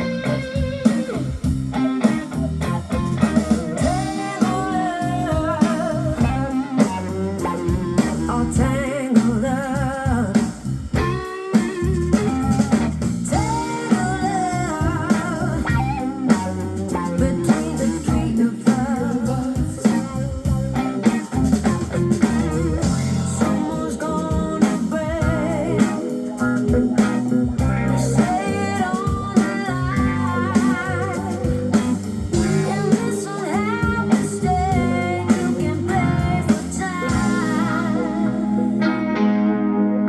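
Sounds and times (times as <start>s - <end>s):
blues-rock music: 0.0s - 40.0s.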